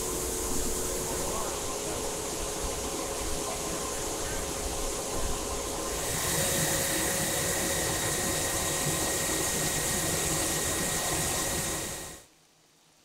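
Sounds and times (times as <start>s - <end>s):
grain pouring hiss: 0.0s - 4.6s, 5.5s - 12.2s
mill machinery hum: 0.0s - 12.3s.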